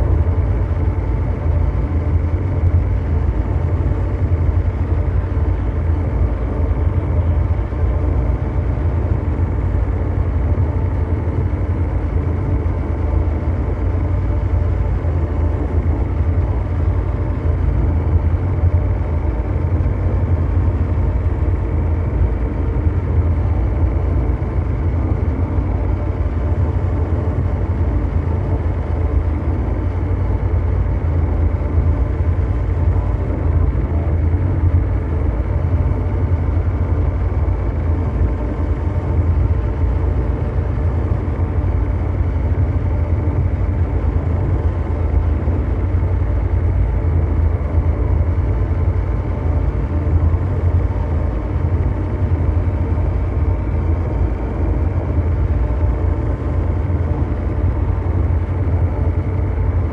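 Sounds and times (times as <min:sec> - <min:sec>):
deep mechanical drone: 0:00.0 - 0:59.9
faint steady hum tones: 0:00.0 - 0:59.9.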